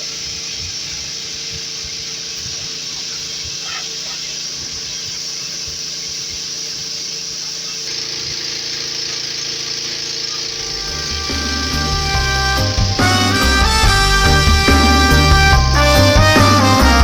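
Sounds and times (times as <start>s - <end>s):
machine hissing: 0.0s - 15.8s
low motor hum: 0.0s - 17.0s.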